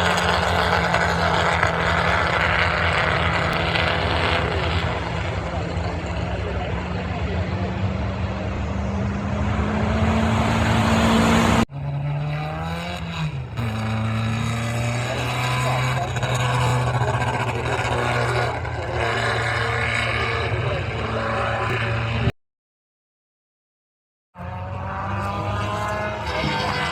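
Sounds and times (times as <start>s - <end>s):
engine running at lower revs: 0.0s - 22.3s, 24.4s - 26.9s
racing engine revving: 0.0s - 22.3s, 24.4s - 26.9s.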